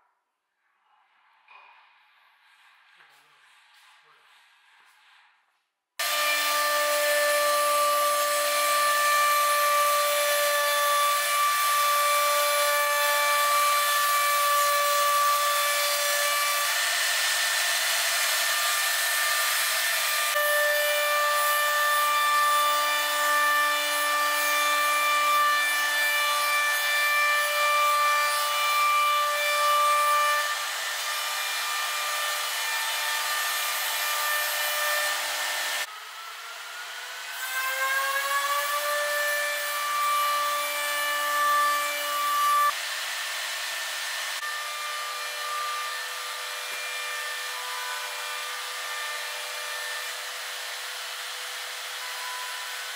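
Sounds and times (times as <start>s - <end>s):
wood cutting noise: 6.0s - 52.9s.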